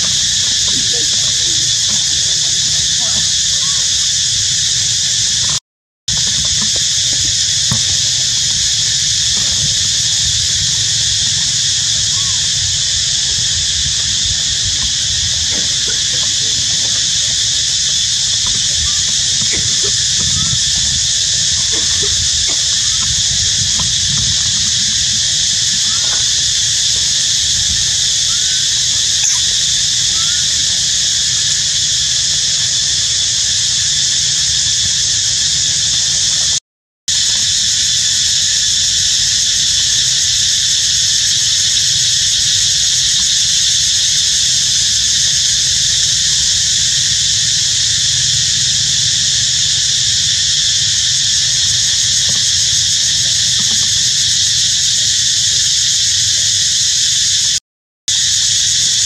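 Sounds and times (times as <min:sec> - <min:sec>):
high-pitched insect drone: 0:00.0 - 0:59.0.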